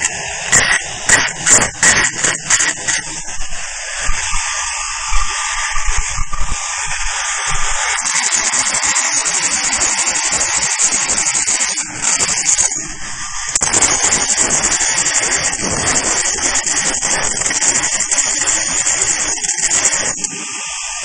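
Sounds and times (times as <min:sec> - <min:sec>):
welding machine hissing and buzzing: 0:00.0 - 0:21.0.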